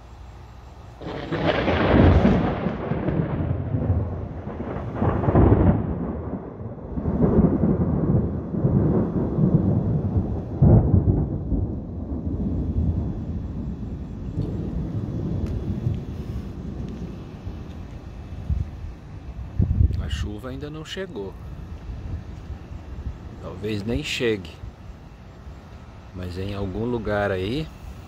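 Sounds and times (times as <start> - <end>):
thunder rumbling: 1.0 - 28.0.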